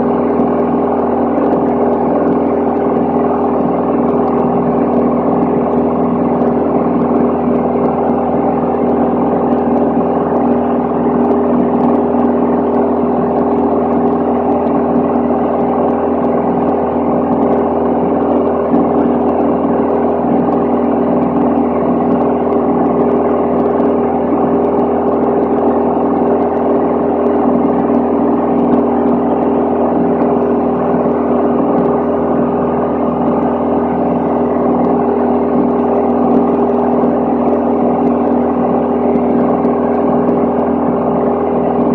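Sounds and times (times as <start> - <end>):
aircraft engine and propeller drone: 0.0 - 41.9.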